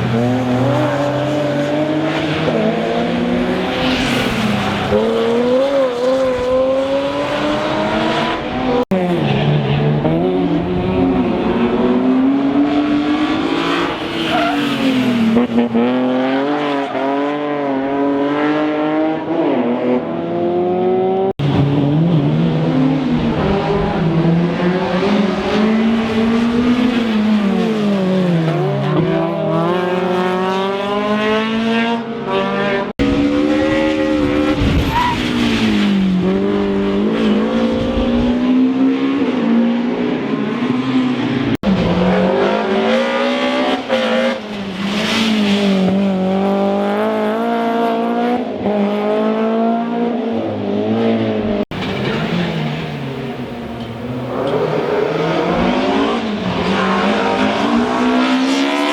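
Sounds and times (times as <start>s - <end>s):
rally car engines revving: 0.0s - 58.9s.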